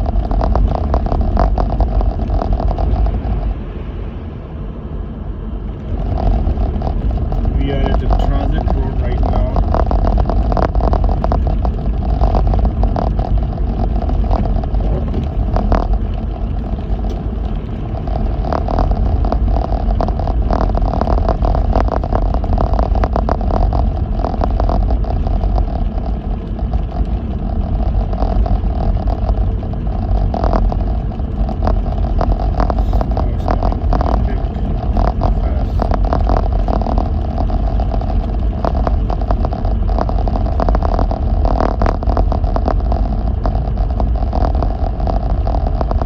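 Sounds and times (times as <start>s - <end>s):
irregular clicks and clatters: 0.0s - 3.6s, 5.7s - 46.0s
tyres and engine rumbling: 0.0s - 46.0s.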